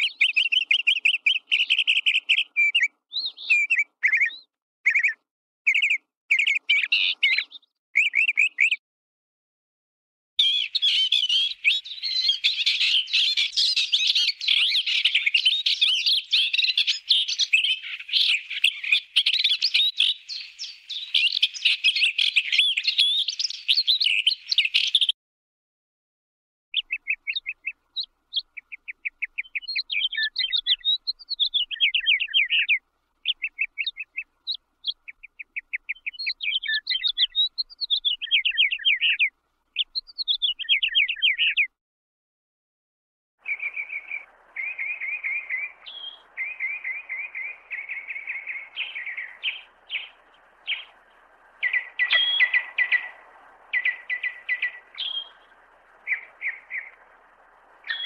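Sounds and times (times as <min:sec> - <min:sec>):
birdsong trills: 0:00.0 - 0:08.8, 0:10.4 - 0:25.2, 0:26.8 - 0:41.7, 0:43.4 - 0:58.0
chorus of small birds chirping: 0:00.0 - 0:08.8, 0:10.4 - 0:25.2, 0:26.8 - 0:41.7, 0:43.4 - 0:58.0.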